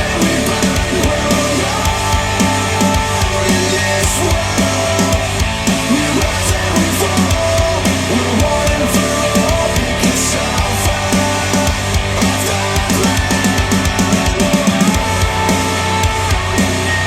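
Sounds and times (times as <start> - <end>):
instrumental rock music: 0.0 - 17.0.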